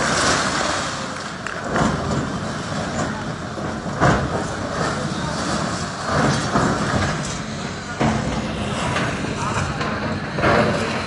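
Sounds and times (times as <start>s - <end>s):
crashing and rattling debris: 0.0s - 11.0s
excavator engine running: 0.0s - 11.0s.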